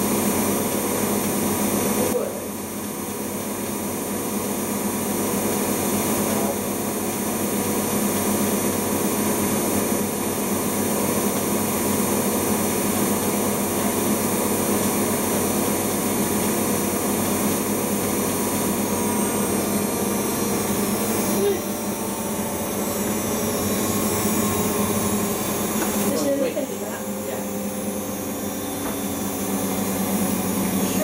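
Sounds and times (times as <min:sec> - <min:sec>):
washing machine spinning: 0:00.0 - 0:31.0.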